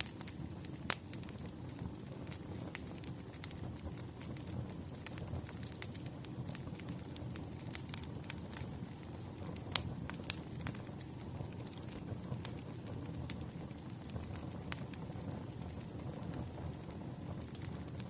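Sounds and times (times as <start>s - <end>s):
fire crackling and popping: 0.0s - 18.0s
wood fire rumbling: 0.0s - 18.0s.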